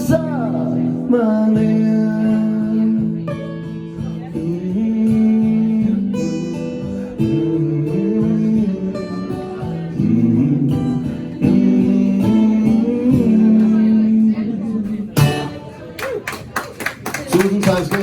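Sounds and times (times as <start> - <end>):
acoustic guitar chords: 0.0 - 16.2.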